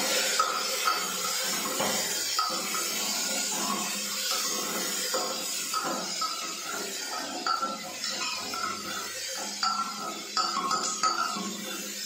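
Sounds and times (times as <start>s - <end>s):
onions sizzling: 0.0s - 12.0s.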